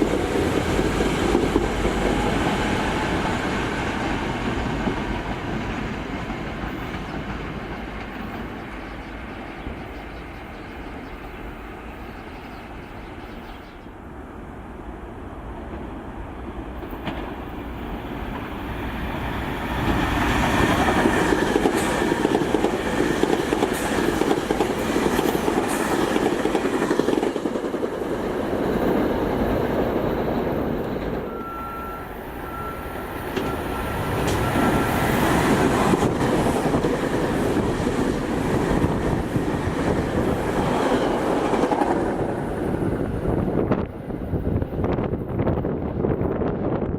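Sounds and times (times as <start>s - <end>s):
electric train passing: 0.0s - 46.9s.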